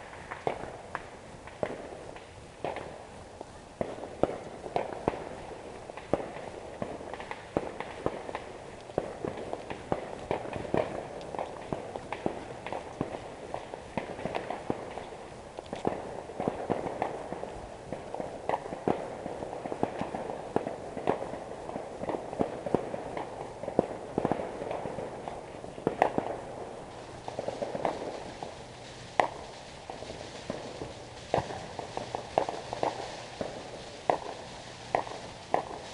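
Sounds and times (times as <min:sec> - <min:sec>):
firecrackers popping and crackling: 0:00.0 - 0:35.9
loud firework bangs: 0:03.8 - 0:35.9.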